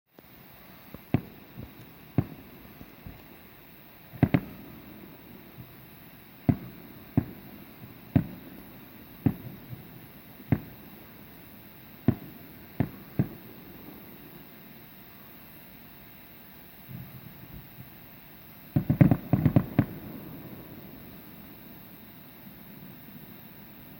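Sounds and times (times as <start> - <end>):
firework shells bursting: 0.2 - 15.7, 16.8 - 22.3.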